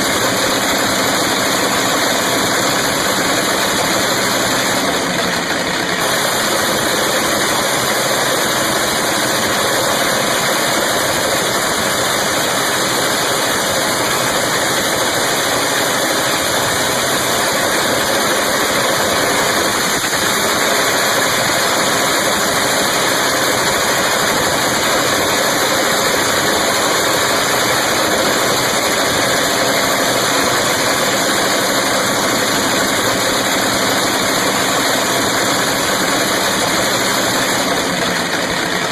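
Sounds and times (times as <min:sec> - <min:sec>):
turbocharged car engine running: 0:00.0 - 0:38.9.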